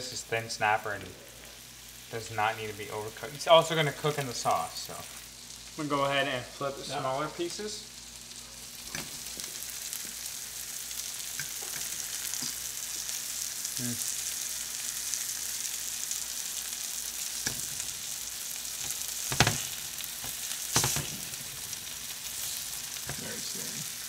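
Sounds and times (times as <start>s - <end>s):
fish sizzling in a frying pan: 0.0s - 24.0s.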